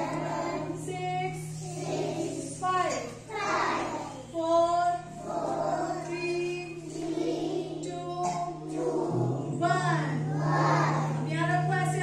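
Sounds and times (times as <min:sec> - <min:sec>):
children singing in unison: 0:00.0 - 0:02.6, 0:03.2 - 0:04.4, 0:05.0 - 0:11.2
steady low hum: 0:00.0 - 0:12.0.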